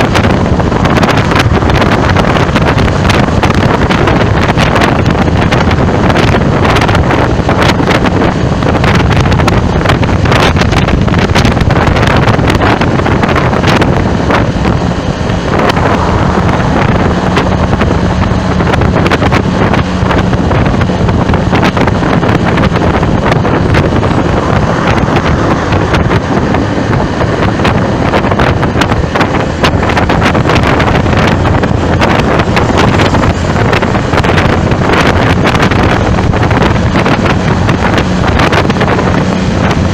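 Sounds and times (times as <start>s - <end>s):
traffic noise: 0.0s - 39.9s
wind buffeting microphone: 0.0s - 39.9s.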